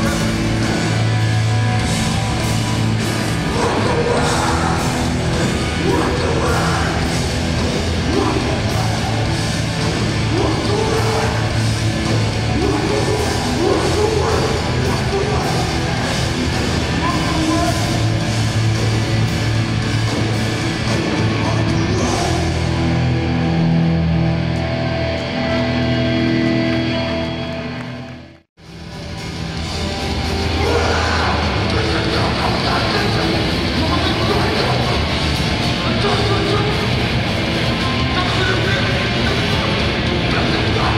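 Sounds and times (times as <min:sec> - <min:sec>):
hardcore punk band playing live: 0:00.0 - 0:27.8, 0:28.6 - 0:40.9
distorted guitar: 0:00.0 - 0:40.9
drums: 0:00.0 - 0:40.9.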